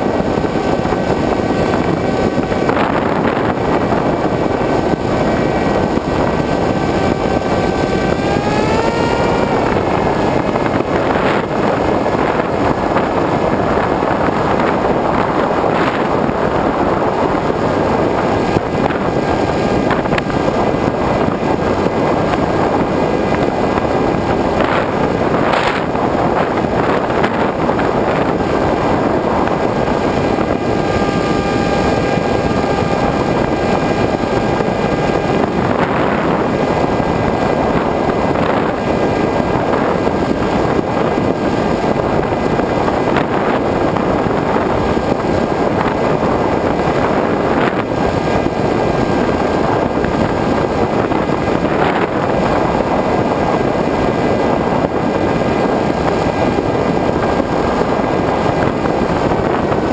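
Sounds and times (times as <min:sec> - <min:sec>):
electric motor and propeller whine: 0:00.0 - 0:59.9
rush of air: 0:00.0 - 0:59.9.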